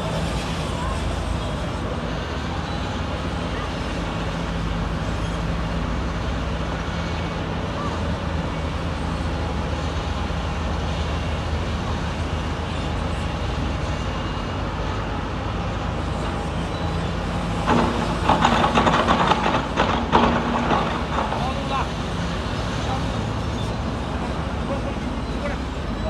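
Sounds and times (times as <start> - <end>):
diesel engine of heavy machinery: 0.0 - 26.0.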